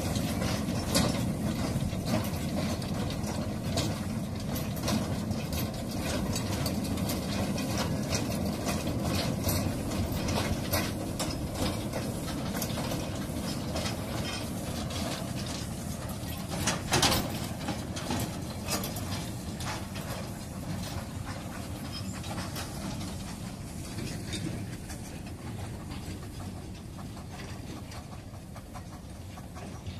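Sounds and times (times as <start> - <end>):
steam train rumble: 0.0 - 29.9
wagons clicking and knocking: 0.0 - 29.9.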